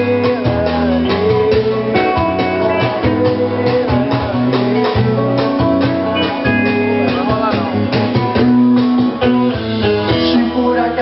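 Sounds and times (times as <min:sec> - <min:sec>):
drum kit beat: 0:00.0 - 0:11.0
live band playing: 0:00.0 - 0:11.0.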